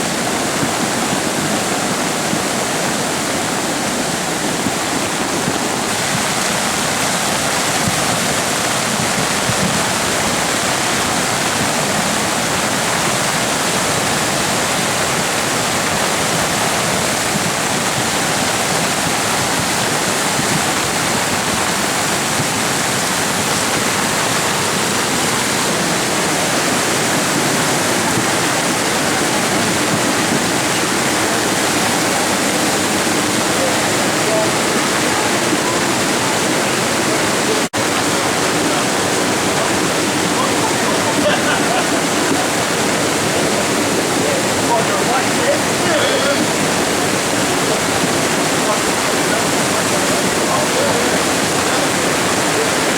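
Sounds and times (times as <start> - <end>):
floodwater rushing: 0.0 - 52.9.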